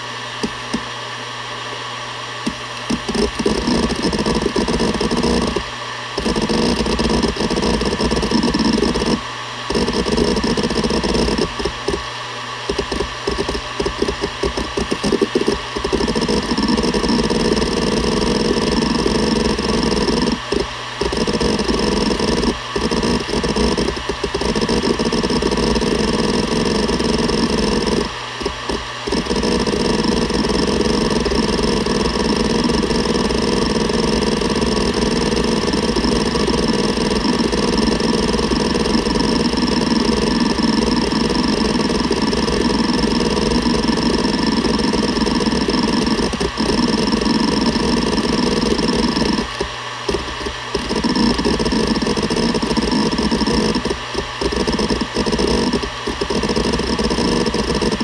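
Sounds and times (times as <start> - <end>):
spinning hard drive tone: 0.0 - 58.0
hard drive head clicks: 0.4 - 0.9, 2.4 - 12.1, 12.7 - 58.0.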